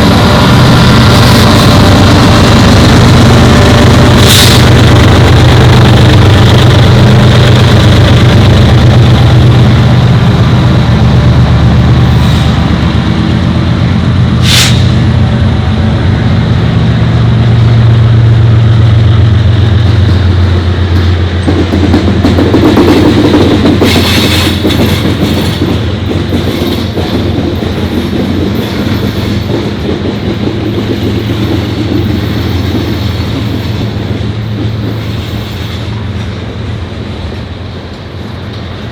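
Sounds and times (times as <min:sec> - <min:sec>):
clatter of rolling coal cars: 0:00.0 - 0:17.8, 0:19.8 - 0:38.9
diesel locomotive engine drone: 0:00.0 - 0:38.9.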